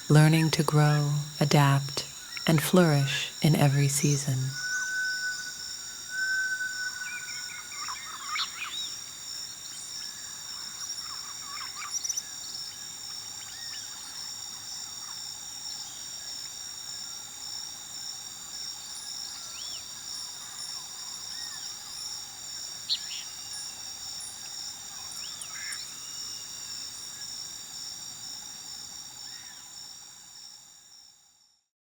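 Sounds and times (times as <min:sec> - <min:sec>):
night insects chirping: 0:00.3 - 0:31.2.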